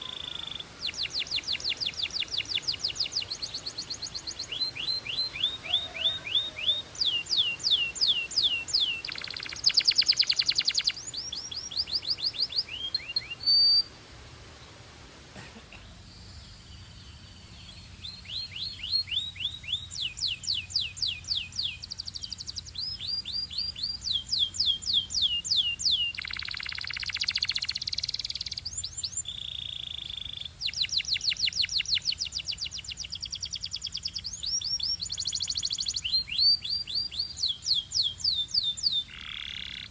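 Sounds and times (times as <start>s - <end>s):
canary singing: 0.0s - 13.9s, 16.8s - 39.9s.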